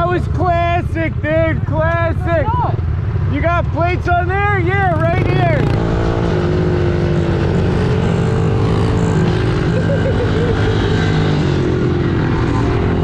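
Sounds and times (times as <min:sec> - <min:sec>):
pit bike engine running: 0:00.0 - 0:13.0.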